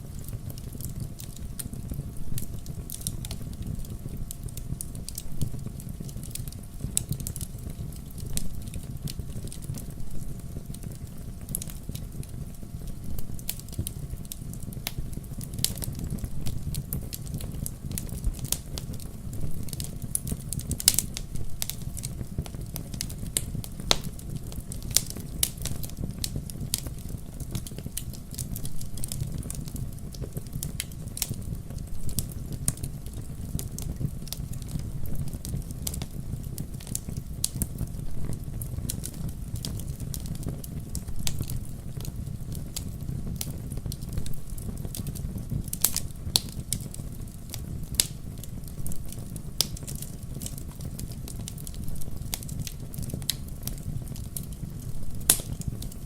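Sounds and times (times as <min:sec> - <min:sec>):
logs burning and crackling: 0:00.0 - 0:56.0.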